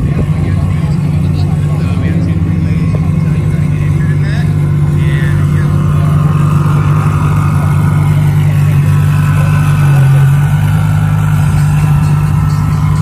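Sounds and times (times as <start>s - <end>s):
car engine at low revs: 0.0s - 13.0s.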